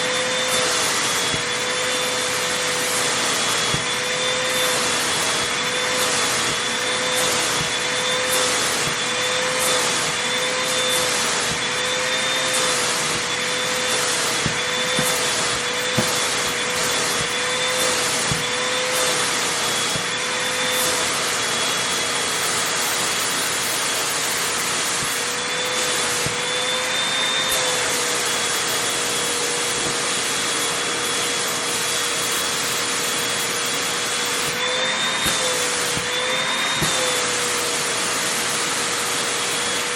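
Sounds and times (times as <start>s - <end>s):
vacuum cleaner whine: 0.0s - 39.9s
vacuum nozzle on fabric: 0.0s - 39.9s.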